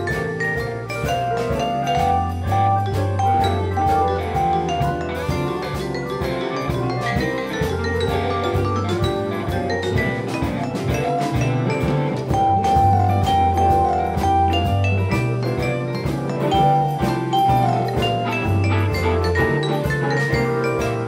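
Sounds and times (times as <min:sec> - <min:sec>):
electric blues band playing: 0:00.0 - 0:21.0
steady drum beat: 0:00.0 - 0:21.0
sustained bass line: 0:00.0 - 0:21.0.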